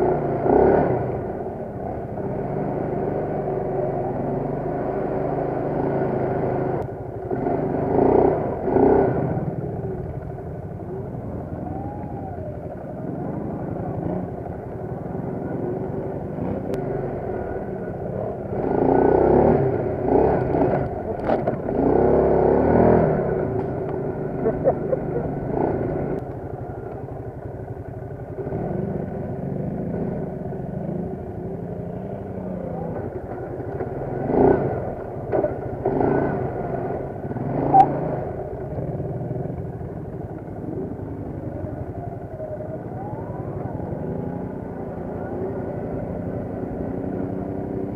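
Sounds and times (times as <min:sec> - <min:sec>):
quad bike engine running: 0:00.0 - 0:47.9.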